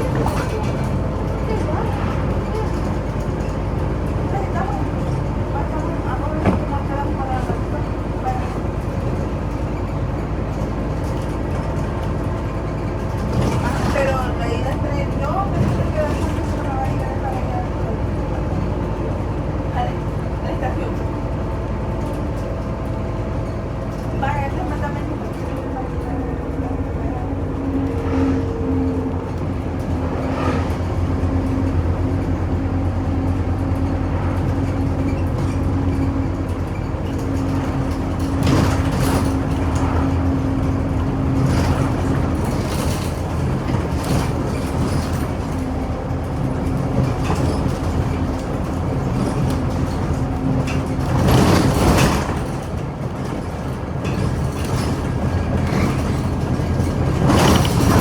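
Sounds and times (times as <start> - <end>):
bus engine drone: 0.0 - 58.0
engine whine: 0.0 - 58.0.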